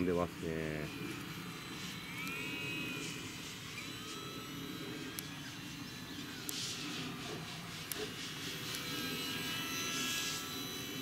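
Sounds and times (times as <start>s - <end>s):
rc airplane motor whine: 0.0s - 11.0s.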